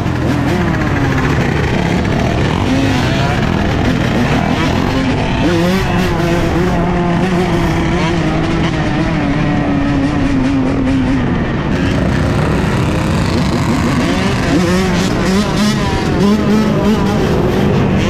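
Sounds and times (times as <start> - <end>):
dirt bikes revving: 0.0 - 18.0.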